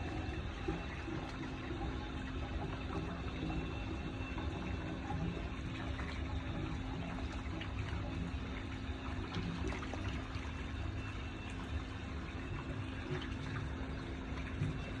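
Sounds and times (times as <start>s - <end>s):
constant low hum: 0.0s - 15.0s
water trickling: 0.0s - 15.0s.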